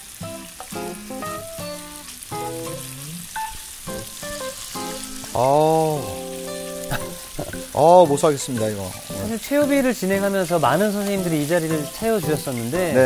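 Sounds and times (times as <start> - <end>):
pork sizzling in a grill pan: 0.0 - 13.0.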